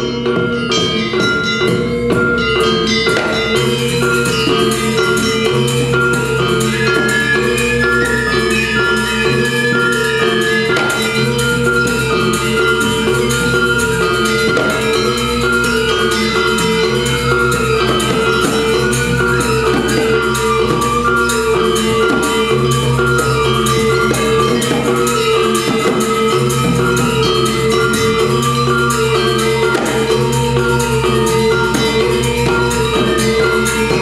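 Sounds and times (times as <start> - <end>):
drums: 0.0 - 34.0
metallophones ringing: 0.0 - 34.0
steady low tones: 0.0 - 34.0.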